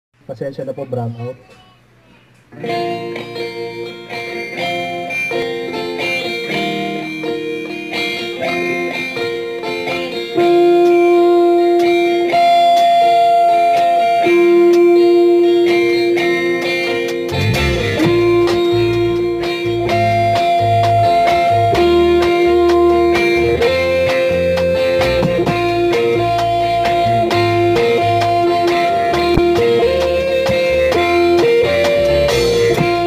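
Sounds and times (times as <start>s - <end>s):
plucked guitar music: 0.7s - 33.0s.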